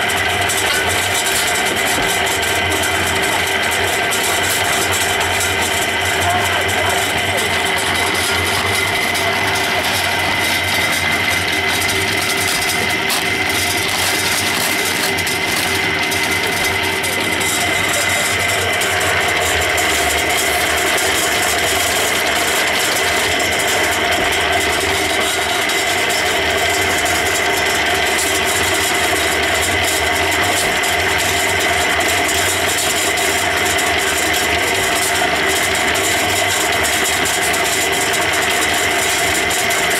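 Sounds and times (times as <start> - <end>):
concrete mixer running: 0.0 - 39.9.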